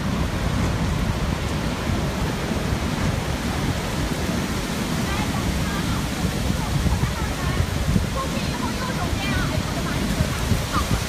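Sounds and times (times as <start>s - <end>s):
strong wind rushing: 0.0s - 11.0s
wind buffeting microphone: 0.0s - 11.0s.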